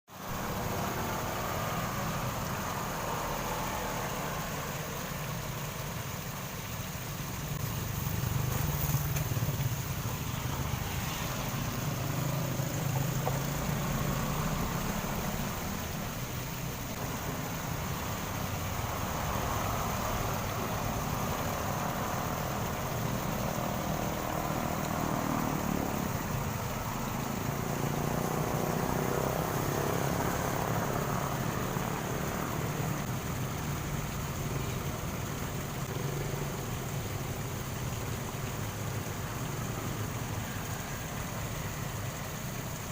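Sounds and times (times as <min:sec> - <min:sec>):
water rushing along a channel: 0:00.1 - 0:42.9.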